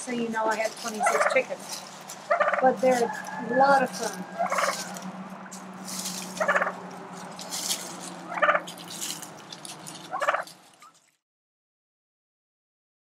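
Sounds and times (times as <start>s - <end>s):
turkeys gobbling: 0.1s - 11.0s.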